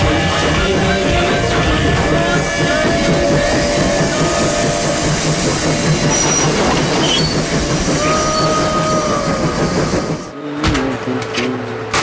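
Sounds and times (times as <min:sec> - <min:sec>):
train rattling on rails: 0:00.0 - 0:12.0.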